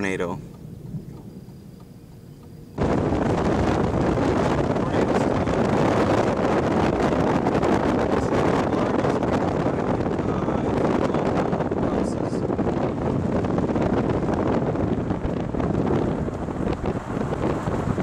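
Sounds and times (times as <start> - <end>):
storm wind buffeting microphone: 2.7 - 18.0.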